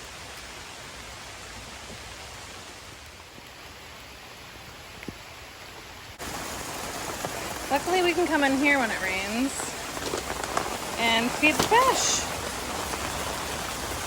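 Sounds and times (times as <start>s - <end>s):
light rain falling: 0.0s - 14.0s.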